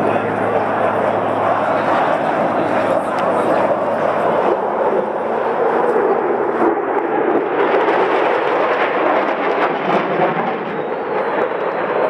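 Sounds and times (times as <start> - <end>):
fighter jets roaring overhead: 0.0 - 12.0.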